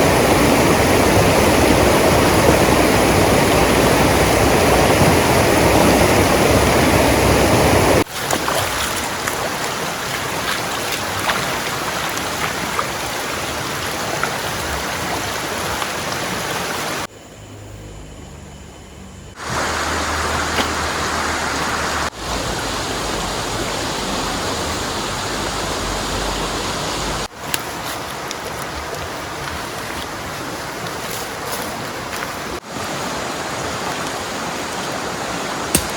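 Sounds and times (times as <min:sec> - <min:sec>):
fast-flowing river water: 0:00.0 - 0:17.1, 0:19.4 - 0:35.9
heavy rain: 0:00.0 - 0:17.1, 0:19.4 - 0:35.9.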